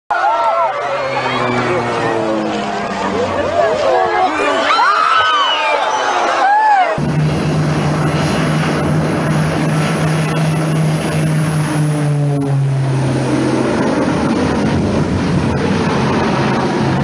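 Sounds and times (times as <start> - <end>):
propeller aircraft engines droning: 0.1 - 17.0.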